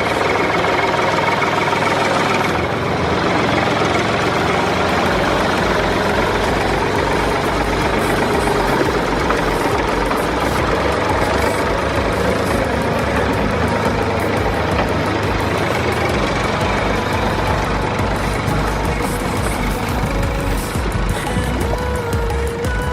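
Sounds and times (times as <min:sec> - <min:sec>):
dump truck engine running: 0:00.0 - 0:22.9
deep low rumble: 0:02.7 - 0:22.9.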